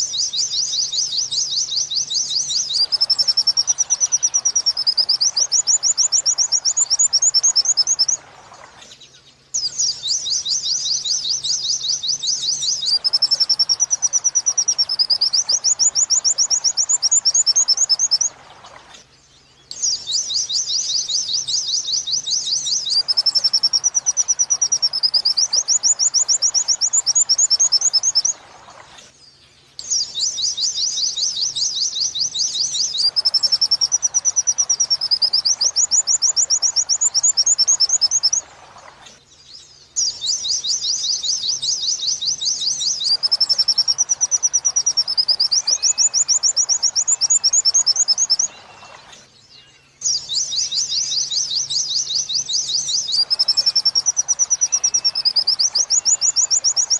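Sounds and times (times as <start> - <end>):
recorded songbird trills: 0.0 - 56.9.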